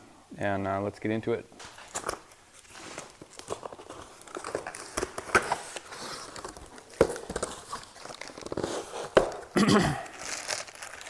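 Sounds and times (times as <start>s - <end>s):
cardboard rustling: 1.6s - 11.0s
tape tearing: 1.6s - 11.0s
plastic bags crinkling: 1.7s - 11.0s.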